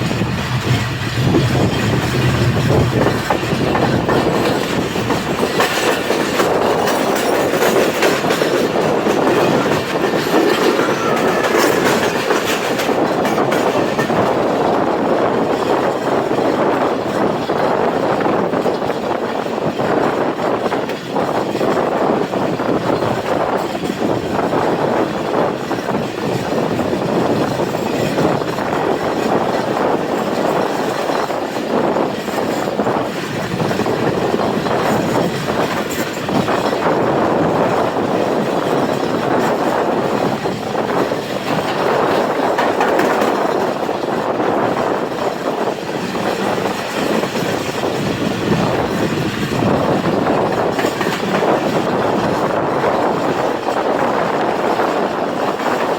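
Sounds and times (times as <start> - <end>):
train rumbling: 0.0 - 55.9
wheels clattering over rails: 0.0 - 55.9.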